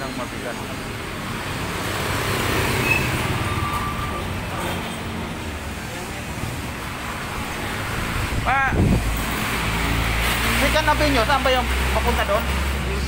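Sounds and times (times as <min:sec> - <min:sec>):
vehicle rumbling past: 0:01.1 - 0:13.0.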